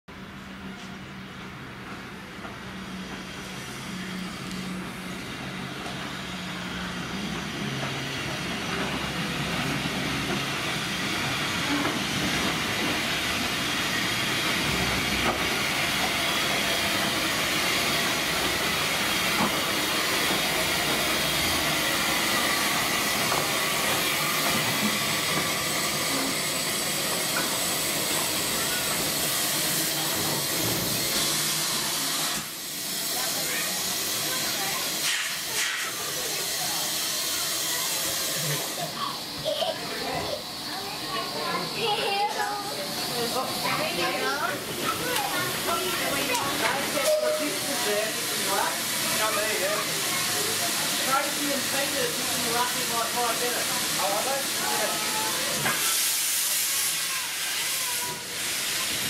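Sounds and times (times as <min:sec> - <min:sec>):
steam locomotive hissing: 0:00.2 - 0:59.0.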